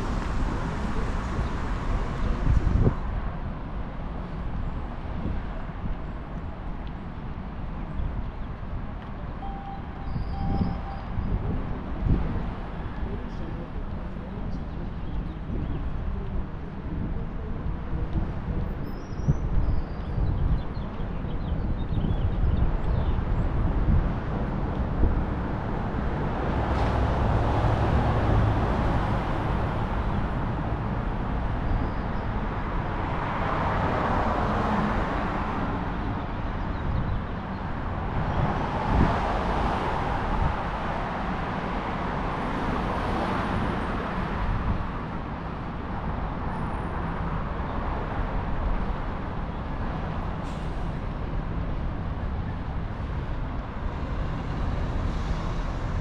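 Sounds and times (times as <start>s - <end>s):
low traffic rumble: 0.0s - 56.0s
vehicles passing: 0.0s - 56.0s.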